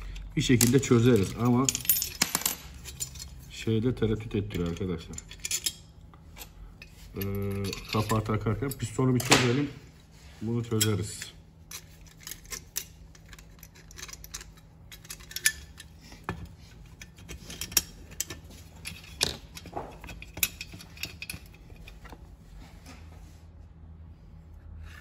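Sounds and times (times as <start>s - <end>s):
metal parts and tools clinking: 0.0s - 9.6s, 10.7s - 22.1s.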